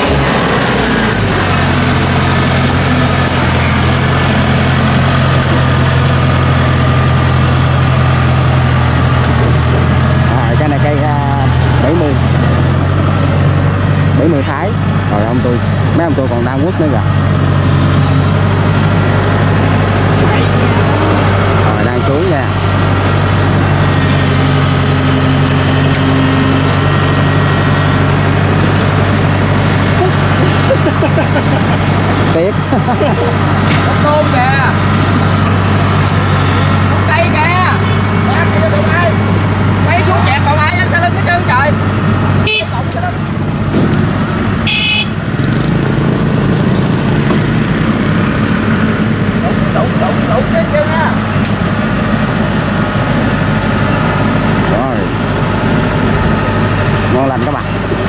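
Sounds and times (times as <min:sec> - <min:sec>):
diesel engine running loud: 0:00.0 - 0:58.0.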